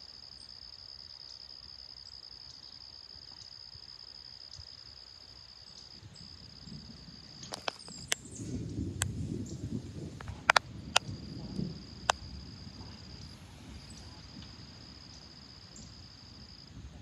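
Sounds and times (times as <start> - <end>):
crickets buzzing: 0.0 - 17.0.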